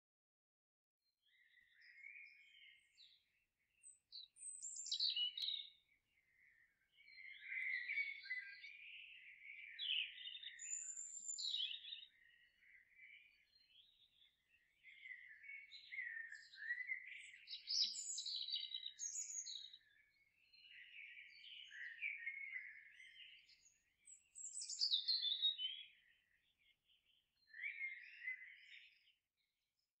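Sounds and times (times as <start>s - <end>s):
songbirds singing: 1.0s - 30.0s.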